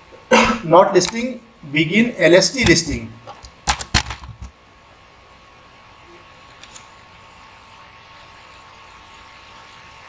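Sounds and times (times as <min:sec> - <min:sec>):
microphone hiss: 0:00.0 - 0:10.0.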